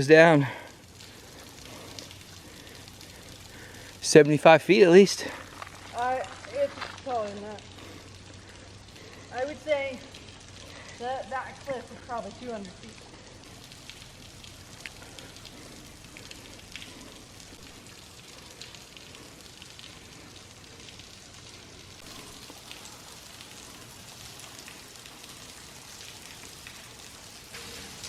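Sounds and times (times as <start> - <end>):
waterfall splashing: 0.0 - 28.0.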